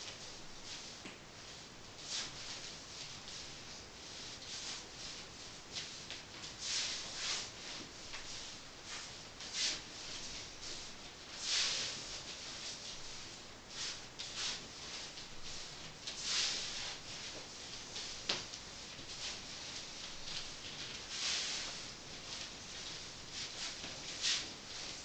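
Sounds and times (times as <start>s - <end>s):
dancer's steps swishing: 0.0s - 25.0s
skirt swishing: 0.0s - 25.0s.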